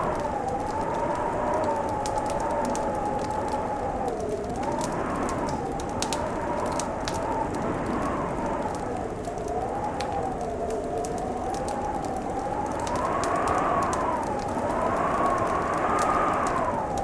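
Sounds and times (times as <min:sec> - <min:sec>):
howling wind: 0:00.0 - 0:17.0
wood fire crackling: 0:00.0 - 0:17.0.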